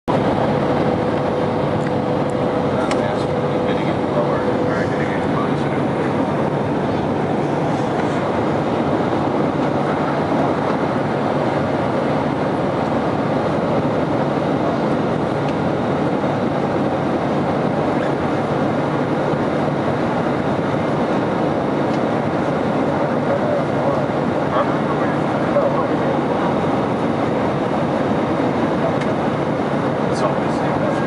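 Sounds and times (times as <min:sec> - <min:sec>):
airliner cabin engine rush: 0:00.0 - 0:31.0.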